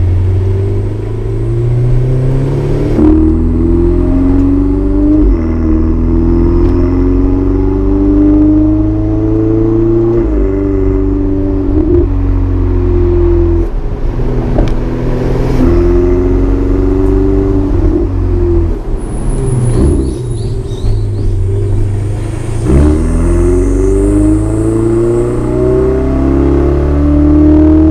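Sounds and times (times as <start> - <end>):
car engine accelerating through gears: 0.0 - 27.9.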